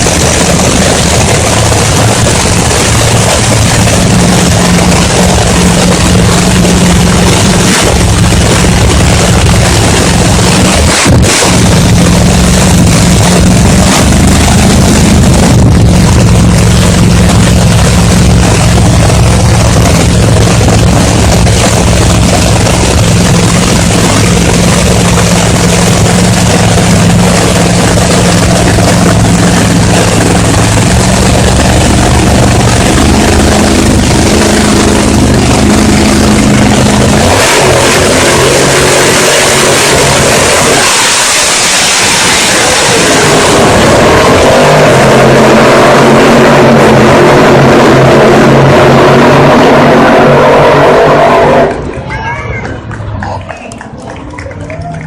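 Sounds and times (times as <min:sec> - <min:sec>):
loud vehicle engine humming: 0:00.0 - 0:55.0.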